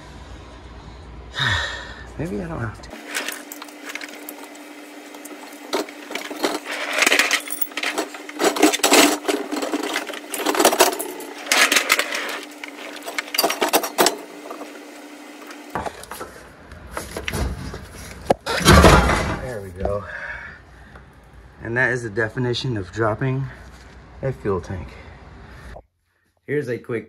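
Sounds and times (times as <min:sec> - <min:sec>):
steady hum: 0:00.0 - 0:25.8.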